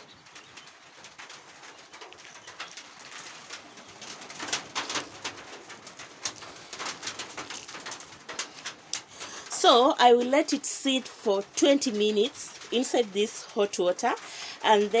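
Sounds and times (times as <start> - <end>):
wet squelches and drips: 0.0 - 14.6.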